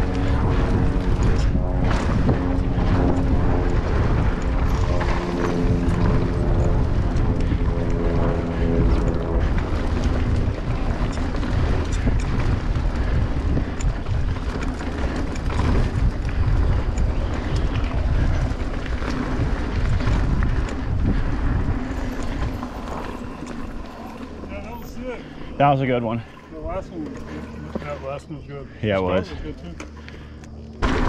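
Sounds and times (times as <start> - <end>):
bike clicks and rattles: 0.0 - 31.0
steady humming tone: 0.0 - 31.0
tyres rumbling on dirt: 0.0 - 31.0
wind buffeting microphone: 0.0 - 31.0.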